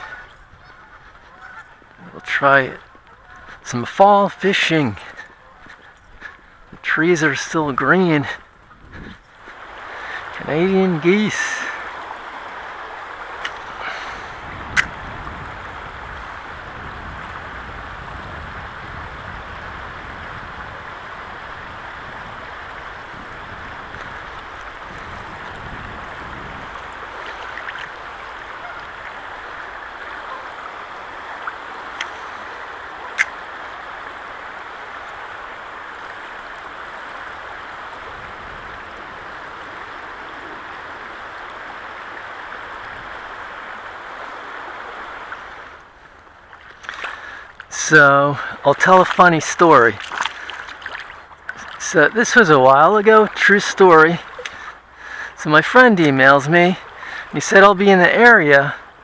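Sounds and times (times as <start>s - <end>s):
water rushing over stones: 0.0s - 59.0s.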